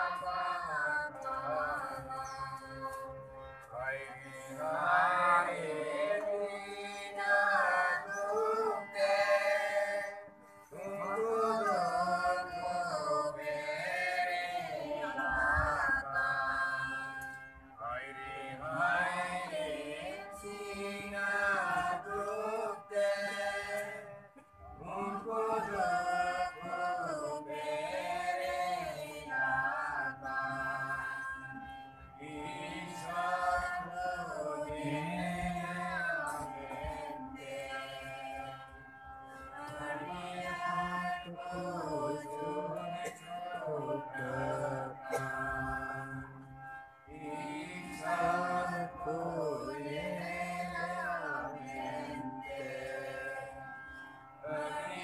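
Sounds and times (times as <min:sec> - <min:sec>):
congregation singing a hymn: 0:00.0 - 0:03.0, 0:03.7 - 0:38.8, 0:39.6 - 0:46.5, 0:47.1 - 0:53.6, 0:54.4 - 0:55.0
small keyboard: 0:00.0 - 0:55.0.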